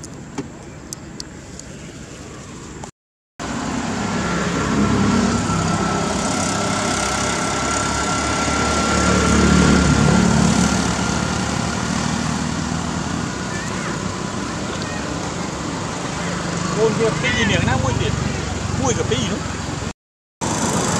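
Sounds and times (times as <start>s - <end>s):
road traffic passing close: 0.0s - 20.9s.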